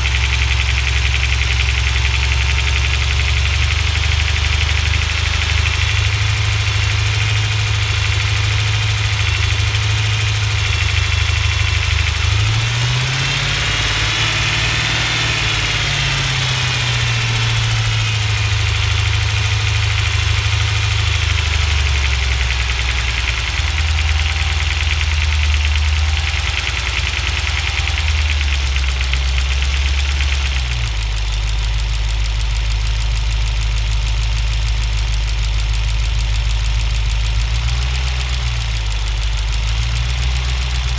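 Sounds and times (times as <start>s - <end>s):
engine knock or tick: 0.0s - 40.9s
engine revving and idling: 0.0s - 40.9s.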